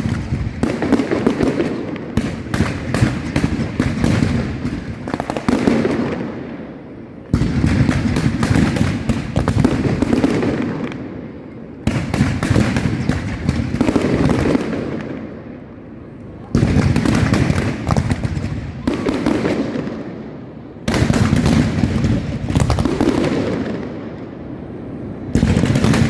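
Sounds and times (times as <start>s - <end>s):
fireworks bangs and crackle: 0.0s - 26.0s.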